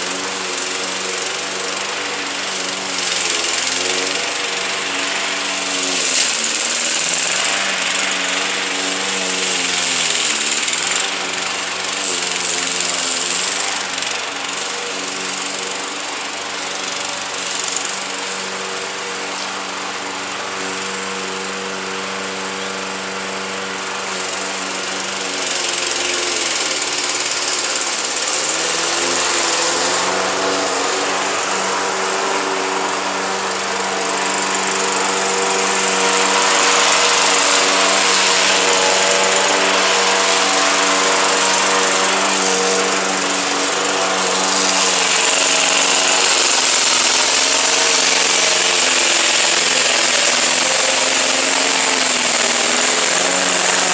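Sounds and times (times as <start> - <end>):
lawn mower engine cutting grass: 0.0 - 53.9.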